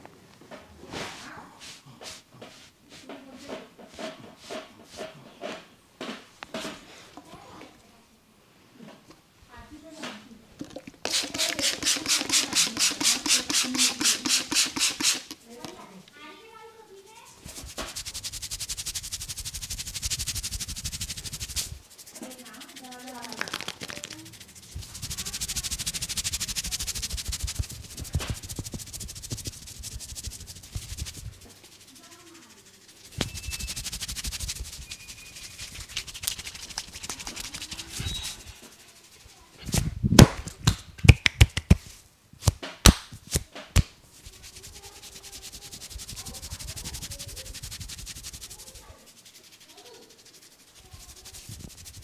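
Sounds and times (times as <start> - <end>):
hands rubbing skin and hair: 0.5 - 7.7, 10.0 - 52.0.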